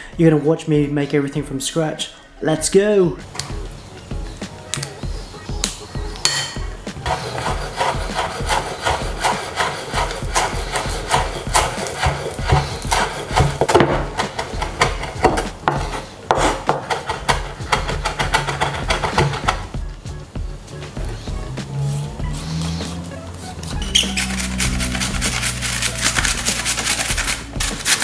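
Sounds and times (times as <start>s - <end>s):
rhythmic rasping food preparation: 3.2s - 28.0s.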